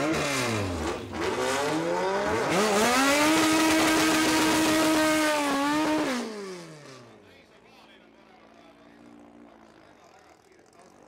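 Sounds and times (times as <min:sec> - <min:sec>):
drag racing car engines at full throttle: 0:00.0 - 0:11.0.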